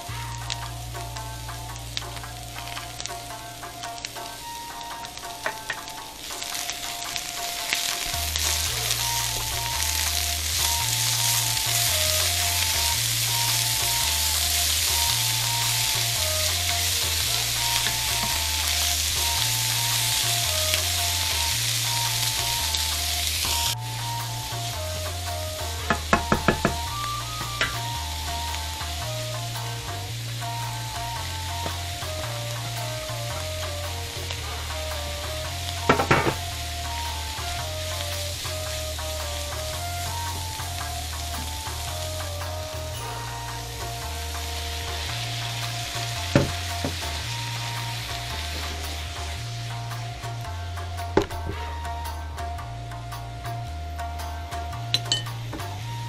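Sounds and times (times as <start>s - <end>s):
background music with bass line: 0.0s - 56.0s
vegetables sizzling in a frying pan: 0.0s - 56.0s.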